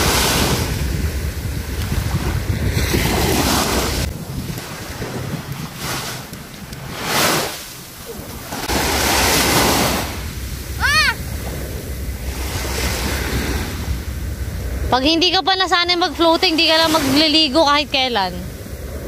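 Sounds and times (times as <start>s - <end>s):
small waves washing: 0.0s - 19.0s
wind buffeting microphone: 0.0s - 19.0s.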